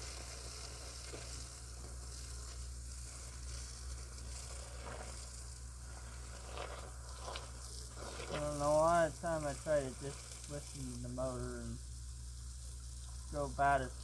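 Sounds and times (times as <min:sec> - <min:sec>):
sawmill cutting hiss: 0:00.0 - 0:11.9, 0:13.0 - 0:14.0.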